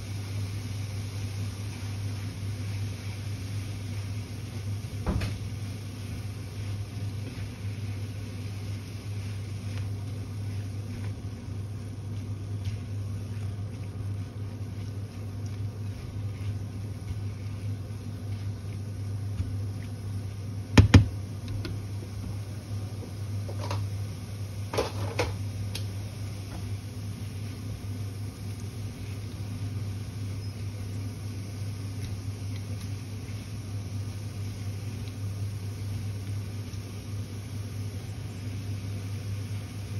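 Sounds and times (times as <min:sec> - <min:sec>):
spatula stirring food in a pan: 0:00.0 - 0:39.9
steady low hum: 0:00.0 - 0:39.9.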